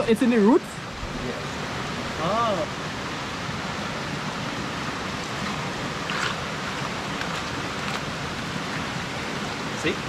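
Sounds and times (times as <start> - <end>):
stream rushing: 0.0 - 10.0.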